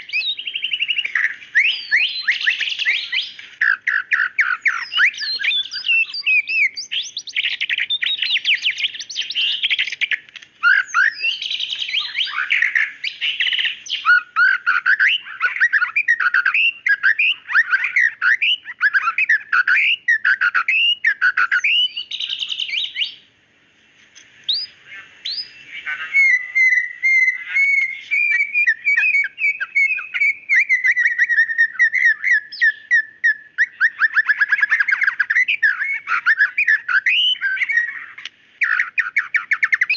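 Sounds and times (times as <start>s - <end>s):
bird rippling trill: 0.0s - 23.2s, 24.5s - 39.9s
bird singing whistled phrases: 0.0s - 23.2s, 24.5s - 39.9s.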